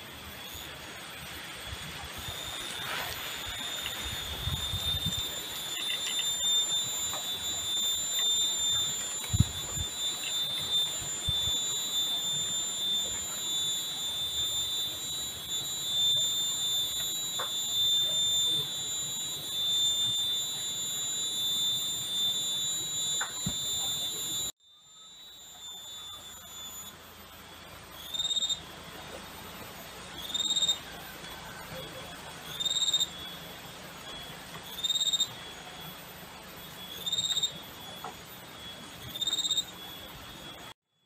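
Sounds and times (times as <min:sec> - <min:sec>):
high-pitched insect drone: 0:00.0 - 0:41.0.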